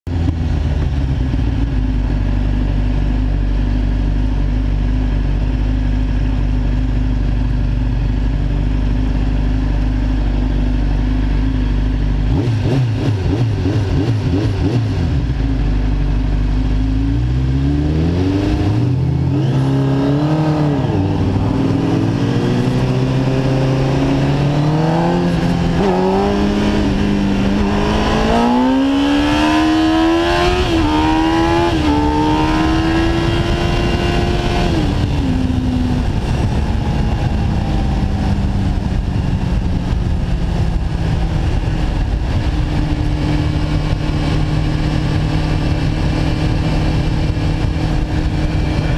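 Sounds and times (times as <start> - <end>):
motorcycle engine revving: 0.1 - 48.9.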